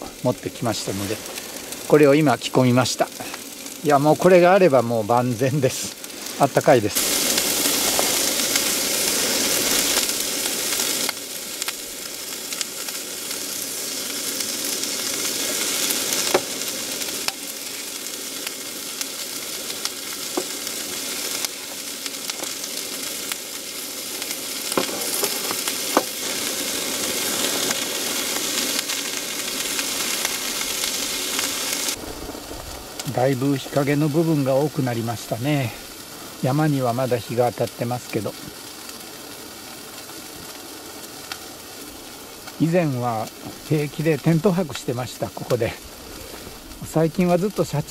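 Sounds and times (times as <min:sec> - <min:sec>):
meat sizzling in a frying pan: 0:00.0 - 0:47.9.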